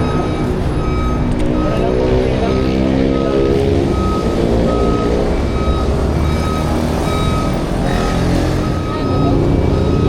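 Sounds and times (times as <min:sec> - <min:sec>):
high electronic beep: 0:00.0 - 0:10.0.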